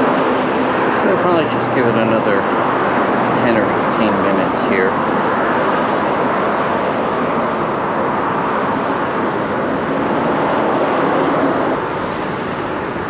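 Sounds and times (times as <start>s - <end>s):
road traffic roar: 0.0s - 13.0s.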